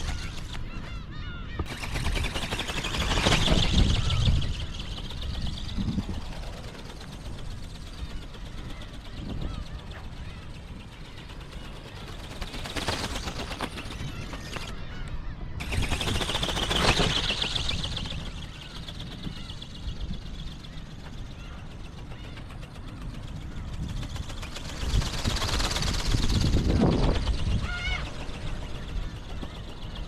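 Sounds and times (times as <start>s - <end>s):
ticking clatter of flapping wings: 0.0s - 30.0s
wind buffeting microphone: 0.0s - 30.0s.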